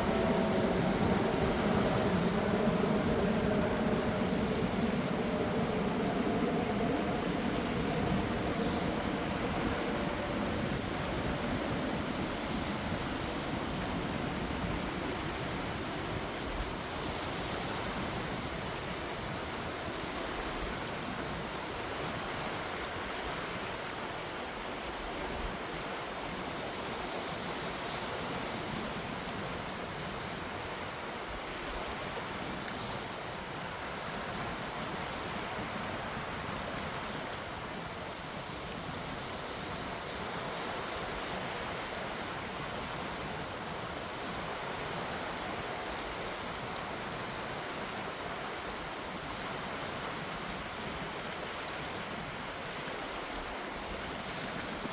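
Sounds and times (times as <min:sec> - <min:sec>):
gentle sea waves washing: 0:00.0 - 0:54.9.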